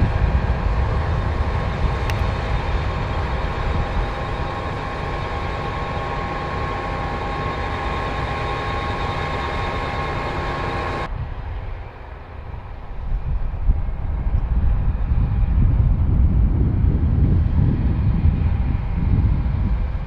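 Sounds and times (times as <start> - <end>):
combine harvester whining hum: 0.0 - 20.0
low rumble: 0.0 - 20.0.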